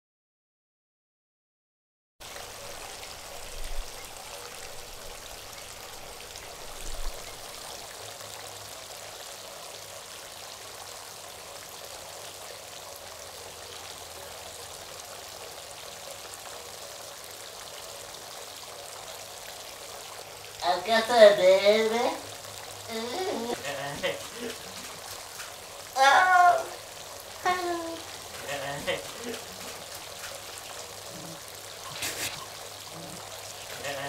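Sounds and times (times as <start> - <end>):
stream running: 2.2 - 34.0.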